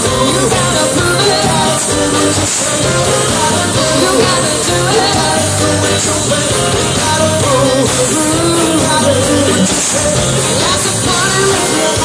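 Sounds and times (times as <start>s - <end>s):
bass guitar: 0.0s - 12.0s
drums: 0.0s - 12.0s
electric guitar: 0.0s - 12.0s
person singing: 0.0s - 12.0s.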